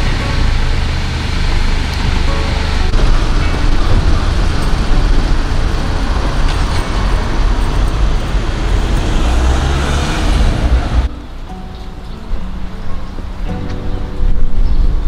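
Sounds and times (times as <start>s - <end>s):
motor vehicle rumbling nearby: 0.0s - 15.0s
road traffic noise: 0.0s - 15.0s.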